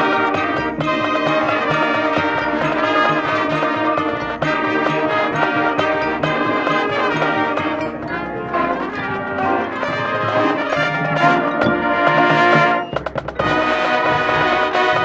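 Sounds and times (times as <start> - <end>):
marching band brass and percussion: 0.0 - 15.0.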